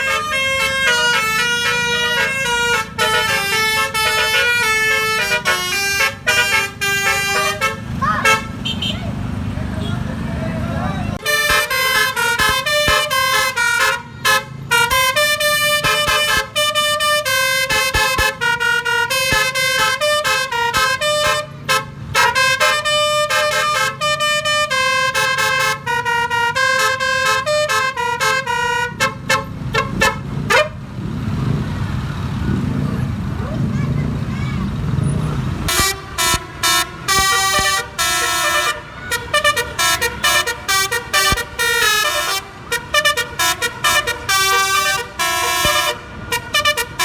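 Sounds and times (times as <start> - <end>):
musical air horn melody: 0.0 - 8.9, 11.2 - 30.8, 35.7 - 47.0
low vehicle and road rumble: 0.0 - 47.0.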